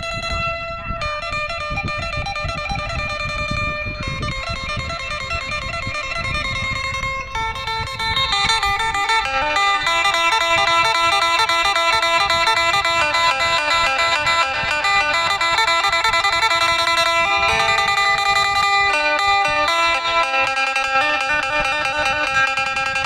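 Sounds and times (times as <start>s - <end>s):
plucked guitar melody: 0.0s - 23.0s.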